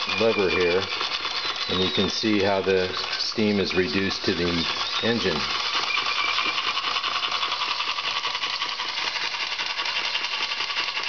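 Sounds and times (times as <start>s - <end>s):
model steam engine running: 0.0s - 11.0s.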